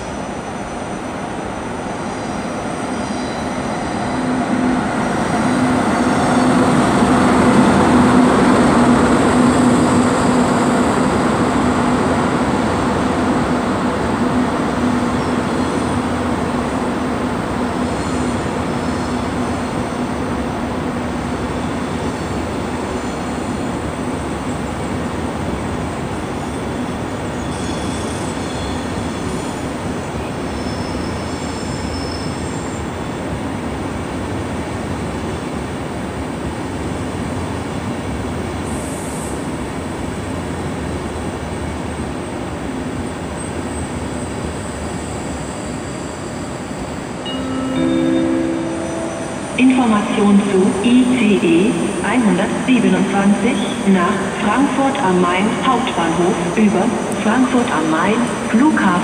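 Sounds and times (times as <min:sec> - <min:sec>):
electric locomotive humming: 0:00.0 - 0:59.0
train coaches rumbling: 0:00.0 - 0:59.0.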